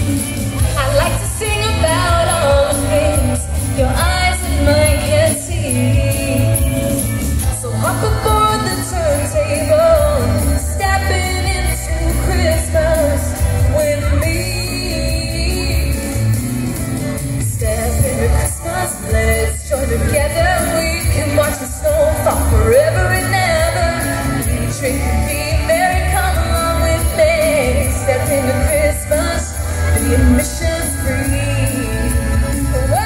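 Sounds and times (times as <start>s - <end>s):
woman singing into microphone: 0.0s - 16.5s, 17.1s - 33.0s
pop backing music with bass beat: 0.0s - 33.0s.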